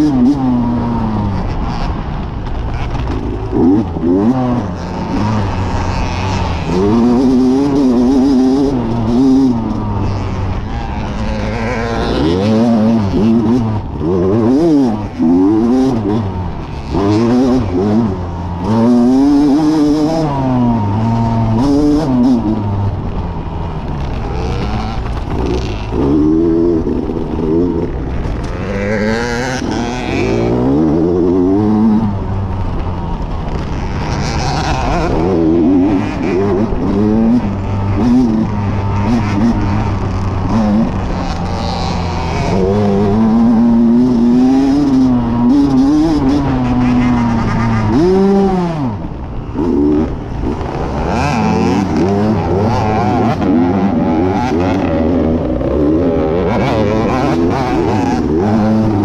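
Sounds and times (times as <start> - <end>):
dirt bike engine revving: 0.0 - 59.0
tyre noise: 0.0 - 59.0
wind: 0.0 - 59.0.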